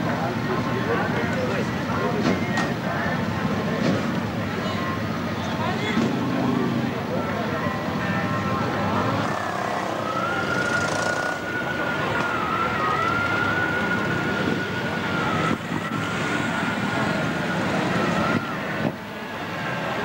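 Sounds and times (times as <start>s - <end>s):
paramotor engine droning: 2.6s - 18.9s.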